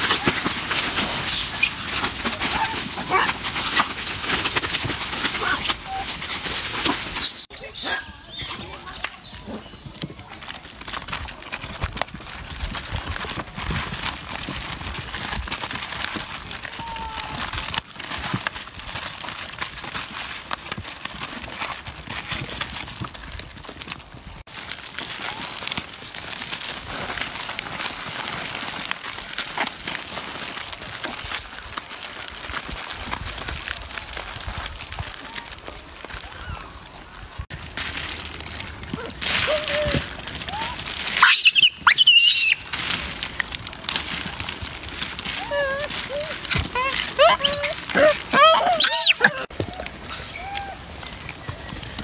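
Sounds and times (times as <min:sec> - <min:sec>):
plastic wrappers crinkling: 0:00.0 - 0:52.0.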